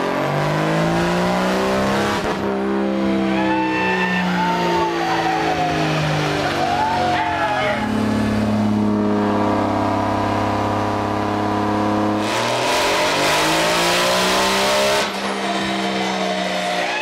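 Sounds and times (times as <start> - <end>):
diesel engine revving: 0.0 - 17.0
turbo and exhaust rush: 0.0 - 17.0.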